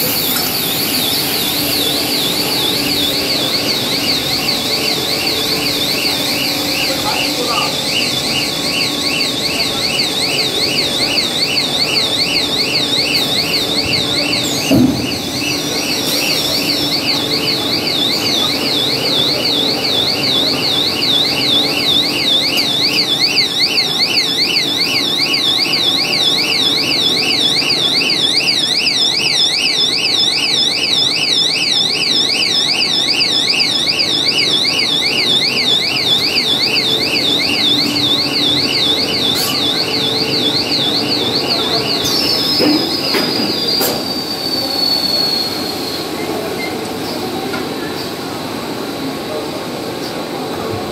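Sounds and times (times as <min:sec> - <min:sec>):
electronic warbling alarm: 0:00.0 - 0:46.9
machine line humming: 0:00.0 - 0:49.4.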